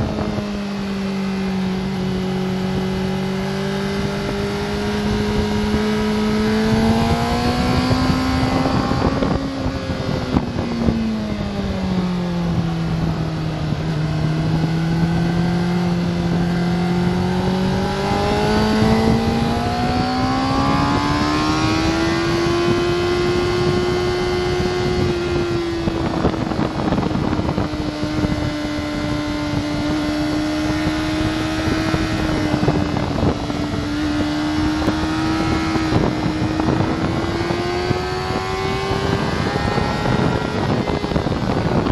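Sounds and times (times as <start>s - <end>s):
motorcycle engine revving: 0.0s - 41.9s
wind buffeting microphone: 0.0s - 41.9s.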